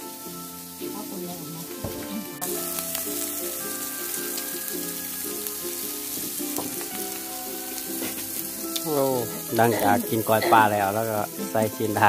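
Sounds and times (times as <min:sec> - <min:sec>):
meat sizzling on grill pan: 0:00.0 - 0:12.0
music with repeating notes: 0:00.0 - 0:12.0.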